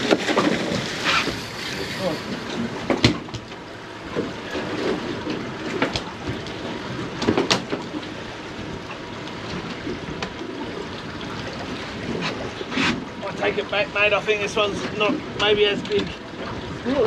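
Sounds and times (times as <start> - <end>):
knocks and splashes: 0.0 - 13.8
water around boat: 0.0 - 17.0
wind: 0.0 - 17.0.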